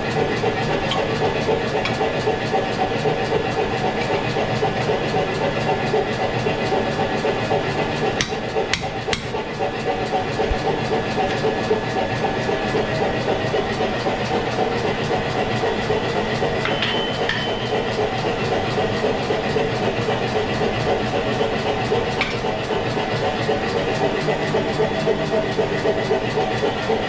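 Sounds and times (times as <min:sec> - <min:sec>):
machine noise with fast flutter: 0:00.0 - 0:27.0.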